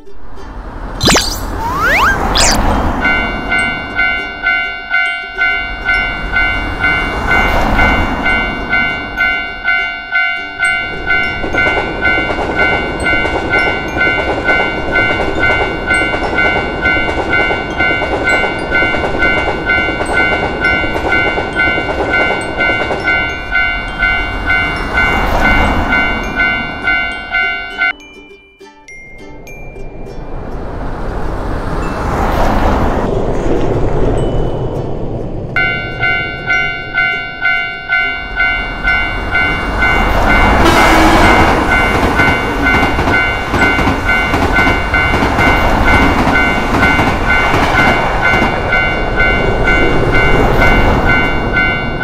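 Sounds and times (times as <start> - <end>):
train passing over crossing: 0.2 - 52.0
level-crossing bell ringing: 1.0 - 29.9, 35.6 - 52.0.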